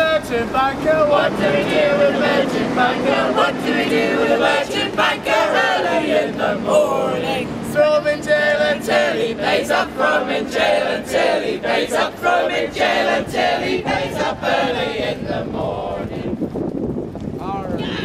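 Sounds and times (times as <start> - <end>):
group of people singing: 0.4 - 16.4.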